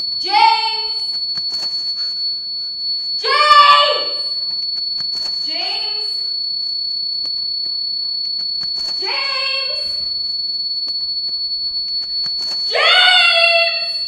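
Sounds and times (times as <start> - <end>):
high-pitched tone: 0.0 - 14.0.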